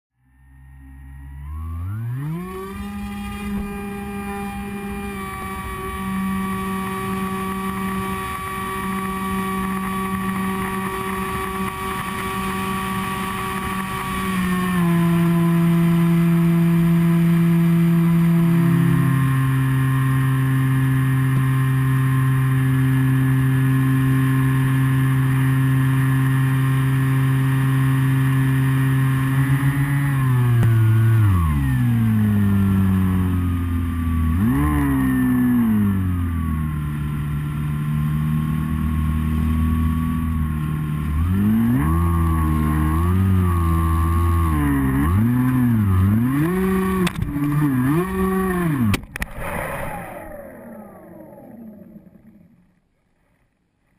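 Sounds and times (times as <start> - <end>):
model airplane motor whine: 0.2 - 52.9.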